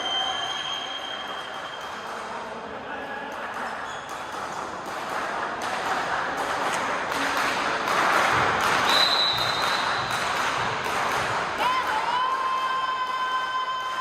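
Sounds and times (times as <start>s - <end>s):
crowd noise in sports hall: 0.0s - 14.0s.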